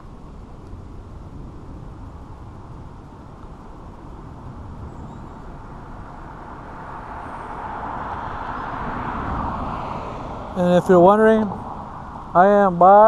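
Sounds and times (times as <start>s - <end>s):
vehicle rumble with tyre hiss: 0.0s - 13.0s.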